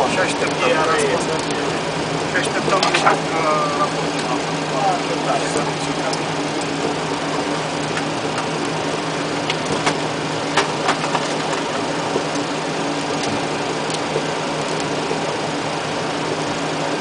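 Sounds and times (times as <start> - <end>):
aircraft engine hum and hiss: 0.0 - 17.0.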